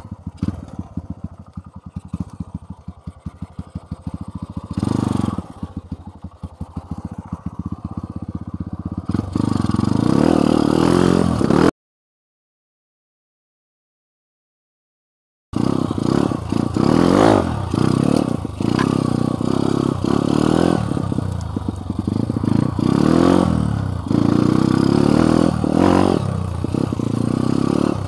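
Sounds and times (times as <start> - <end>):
dirt bike engine revving: 0.0 - 11.7, 15.6 - 28.0.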